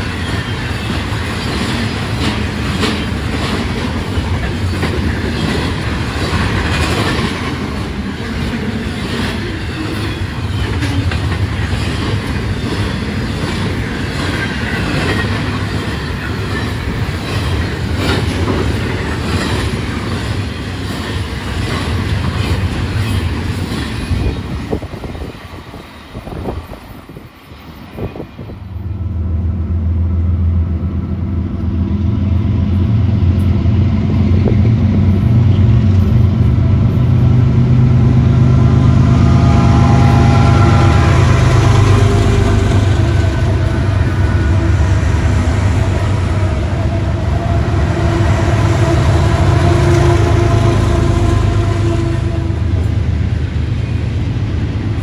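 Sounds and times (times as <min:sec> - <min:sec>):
freight train wheel clatter: 0:00.0 - 0:29.3, 0:31.1 - 0:55.0
diesel locomotive engine drone: 0:00.0 - 0:55.0.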